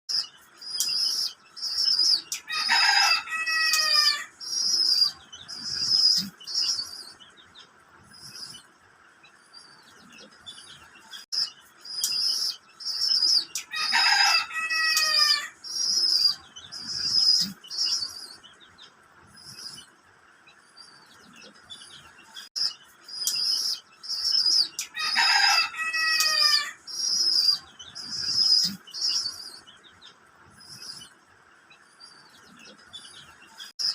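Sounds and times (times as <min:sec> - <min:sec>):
bird chirps: 0:00.1 - 0:08.6, 0:09.3 - 0:19.9, 0:20.6 - 0:33.9.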